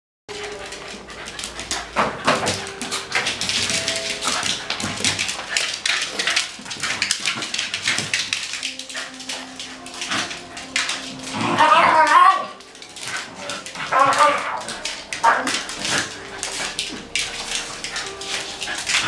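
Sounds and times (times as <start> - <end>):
dogs whining and yipping: 0.3 - 19.0
claws scrabbling on hard floor: 0.4 - 19.0.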